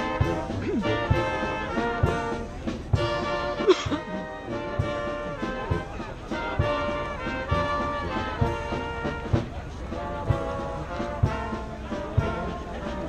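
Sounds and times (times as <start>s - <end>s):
brass chords: 0.0s - 13.0s
steady low drum beat: 0.0s - 13.0s.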